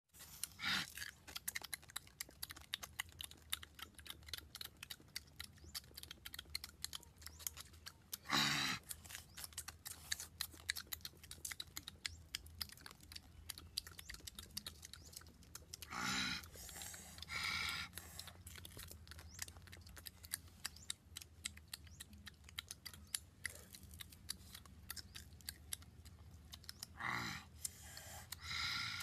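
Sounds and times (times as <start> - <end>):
people chewing crunchy food: 0.2 - 29.0.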